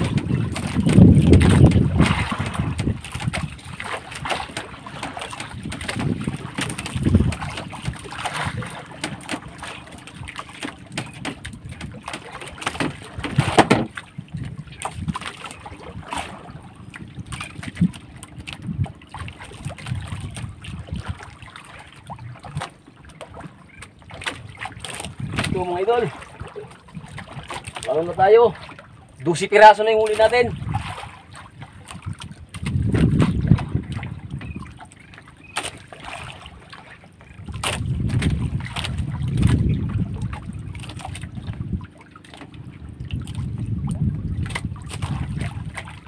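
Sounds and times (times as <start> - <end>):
knocks and splashes: 0.0 - 46.0
water sloshing around boat: 0.0 - 46.0
wind buffeting microphone: 0.0 - 46.0.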